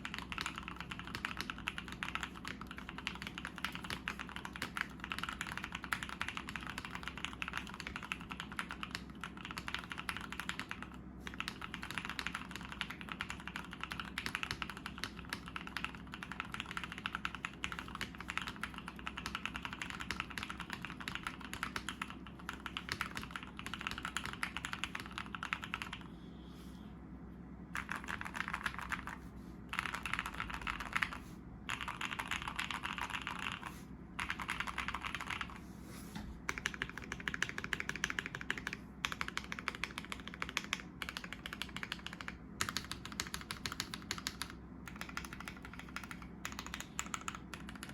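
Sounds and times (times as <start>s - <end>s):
mechanical keyboard typing: 0.0s - 26.0s, 27.8s - 35.6s, 36.5s - 47.9s.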